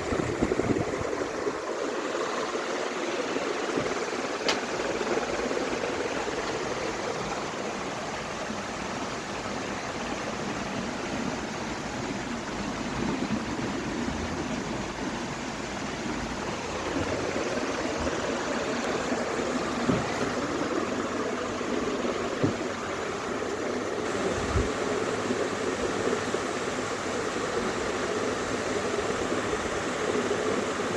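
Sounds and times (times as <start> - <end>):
ceiling fan whooshing: 0.0 - 30.9.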